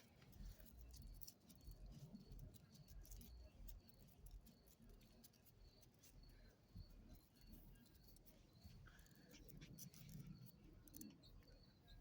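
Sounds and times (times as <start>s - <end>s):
small ticks and patter: 0.0s - 12.0s.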